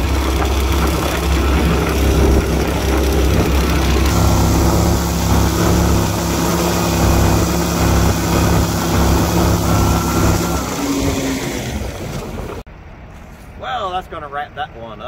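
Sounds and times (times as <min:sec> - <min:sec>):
boat motor running at high speed: 0:00.0 - 0:12.6
rush of wind and water: 0:00.0 - 0:12.7.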